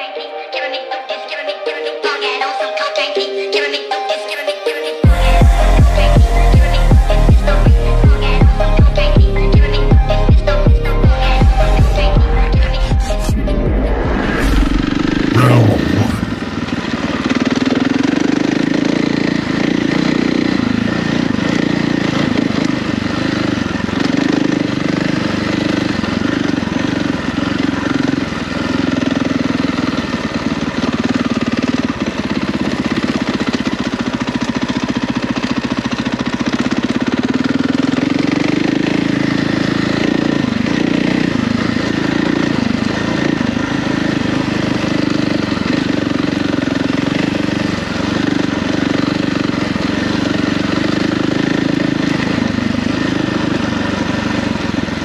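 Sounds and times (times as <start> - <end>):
dirt bike engine revving: 5.0 - 55.0.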